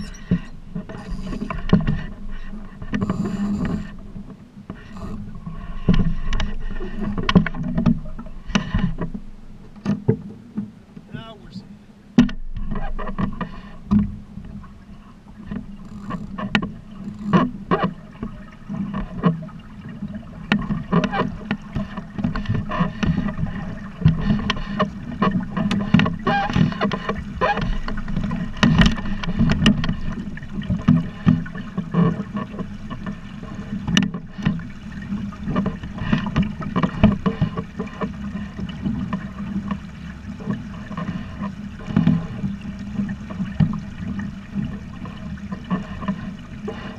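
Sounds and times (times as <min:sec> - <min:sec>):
water splashing against boat hull: 0:00.0 - 0:46.9.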